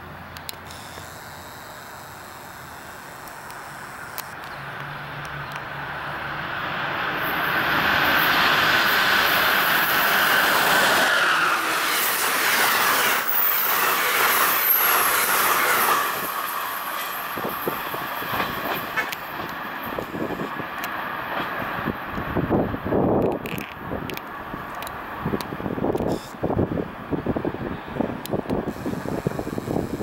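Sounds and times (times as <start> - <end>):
locomotive whine: 0.3 - 23.2, 24.6 - 30.0
train passing at speed: 2.9 - 30.0.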